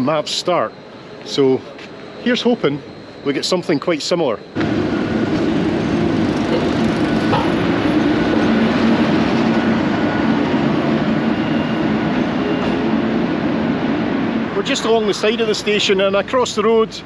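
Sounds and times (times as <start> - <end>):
locomotive mechanical hum: 0.0 - 17.0.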